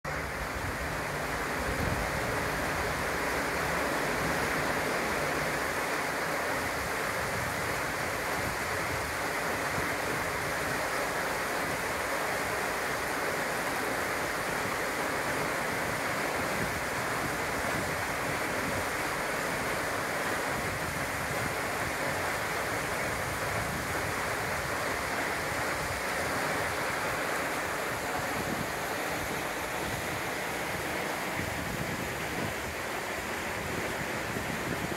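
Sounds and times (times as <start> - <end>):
river water rushing over weir: 0.1 - 34.9.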